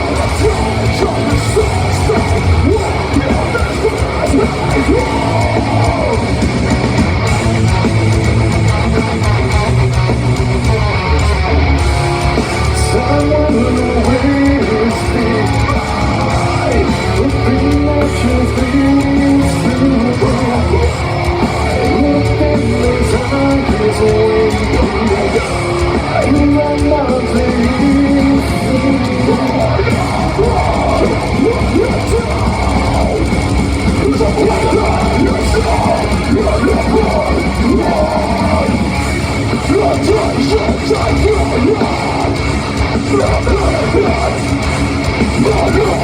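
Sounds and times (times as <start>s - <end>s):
sung vocals: 0.0s - 9.6s, 12.4s - 46.0s
bass: 0.0s - 46.0s
distorted electric guitars: 0.0s - 46.0s
drums: 0.0s - 46.0s.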